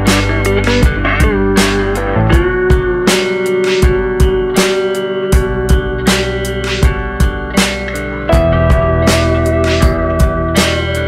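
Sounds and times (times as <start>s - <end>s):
sliding guitar melody: 0.0s - 11.0s
steady drum beat: 0.0s - 11.0s.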